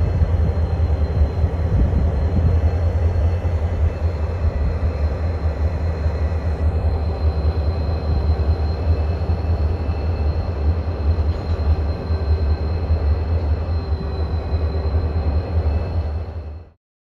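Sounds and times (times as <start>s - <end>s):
faint high whine: 0.0s - 16.8s
train rumbling: 0.0s - 16.8s.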